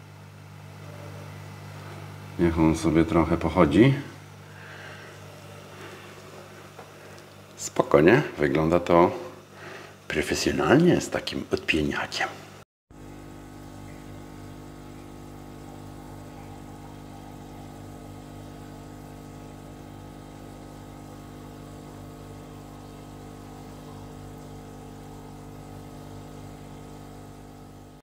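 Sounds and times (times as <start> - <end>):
small pump humming: 0.0 - 28.0.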